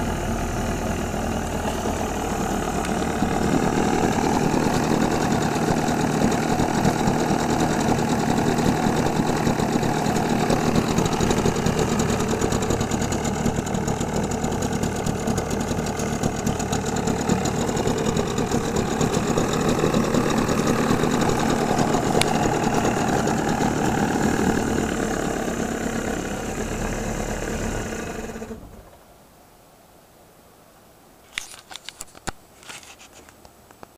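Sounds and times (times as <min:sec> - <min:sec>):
exhaust bubbling water: 0:00.0 - 0:28.8
outboard motor running: 0:00.0 - 0:28.8.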